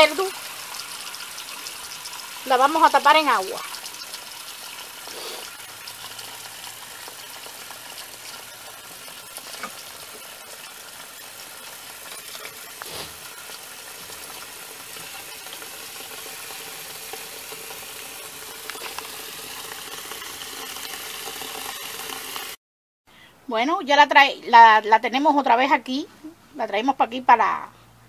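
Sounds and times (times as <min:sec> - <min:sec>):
tap water running into metal pot: 0:00.0 - 0:22.6.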